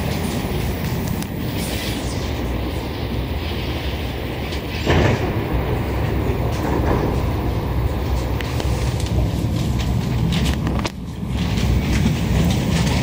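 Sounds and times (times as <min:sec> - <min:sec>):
footsteps: 0:00.0 - 0:13.0
train car humming: 0:00.0 - 0:13.0
train doors opening: 0:00.0 - 0:13.0.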